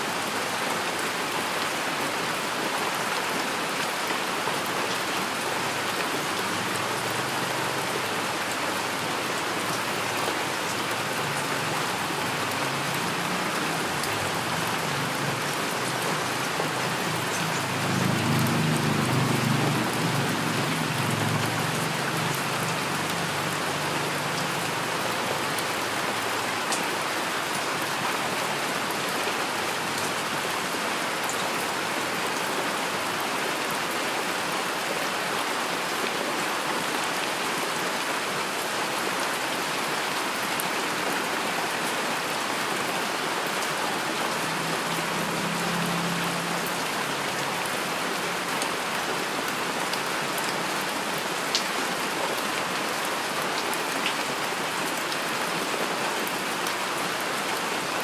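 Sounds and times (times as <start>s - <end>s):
heavy rainfall: 0.0s - 58.0s.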